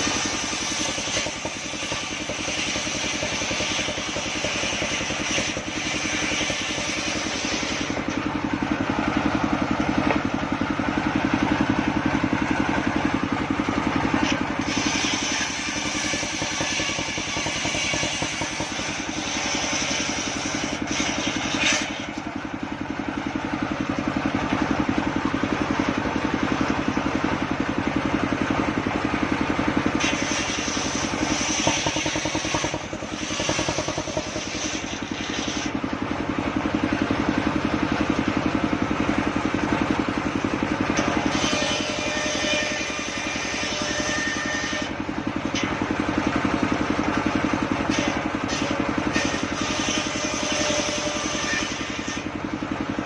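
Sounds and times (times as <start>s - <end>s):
saw blade cutting wood: 0.0s - 28.8s, 29.7s - 38.5s, 39.4s - 53.0s
sawmill engine running: 0.0s - 53.0s.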